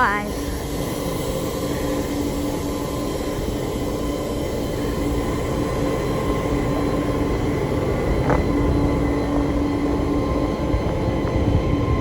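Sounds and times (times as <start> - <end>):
diesel locomotive engines idling: 0.0 - 12.0.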